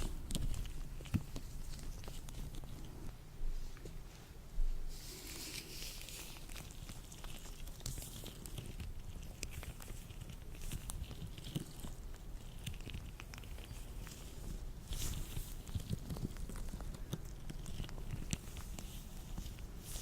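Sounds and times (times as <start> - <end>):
latex gloves crackling: 0.0 - 3.2, 5.0 - 20.0.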